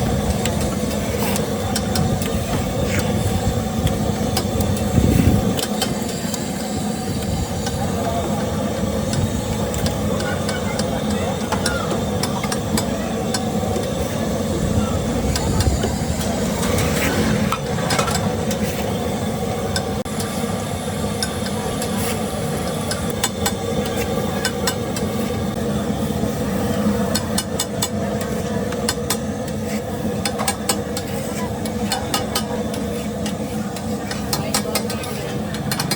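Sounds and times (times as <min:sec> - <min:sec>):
road traffic hum: 0:00.0 - 0:35.9.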